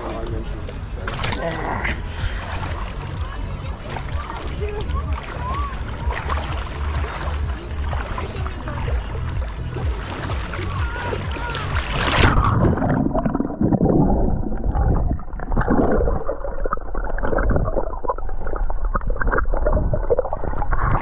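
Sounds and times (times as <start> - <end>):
water noise: 0.0 - 21.0
underwater gurgling and bubbling: 1.4 - 21.0.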